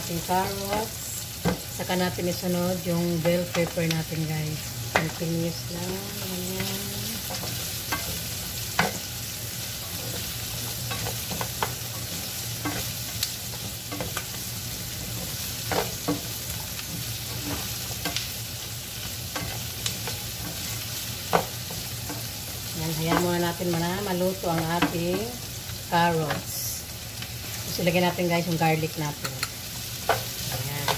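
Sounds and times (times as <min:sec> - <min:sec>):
vegetables sizzling in oil: 0:00.0 - 0:30.9.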